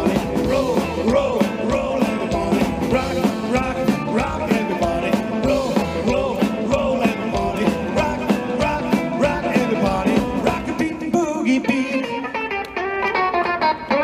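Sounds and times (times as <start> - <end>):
live rock and roll band playing: 0.0 - 14.0.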